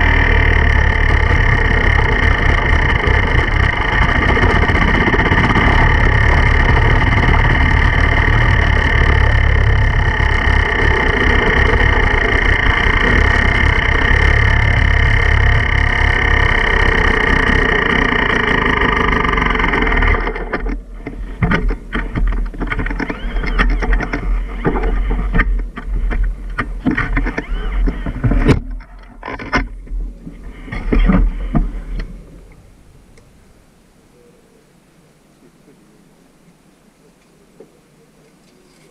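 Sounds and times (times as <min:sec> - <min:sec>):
dirt bike engine running: 0:00.0 - 0:33.1.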